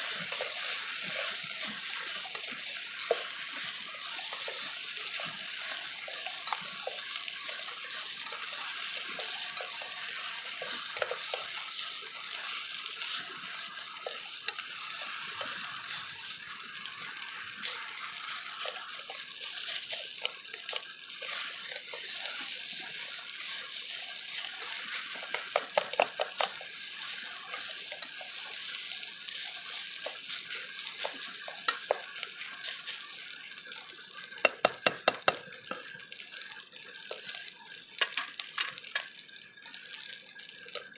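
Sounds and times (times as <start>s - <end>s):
steady hiss: 0.0s - 33.5s.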